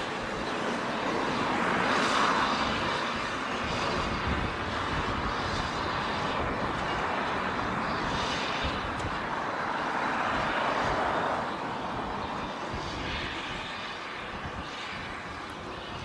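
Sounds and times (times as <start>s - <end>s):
train rushing on rails: 0.0s - 16.0s.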